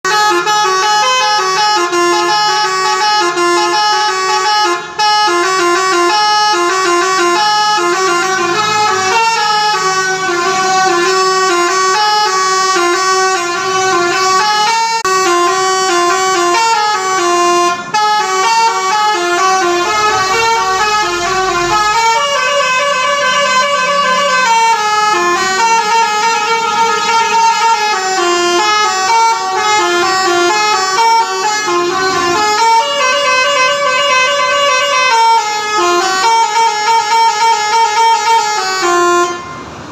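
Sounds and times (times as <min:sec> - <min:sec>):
musical air horns playing tune: 0:00.0 - 0:39.8.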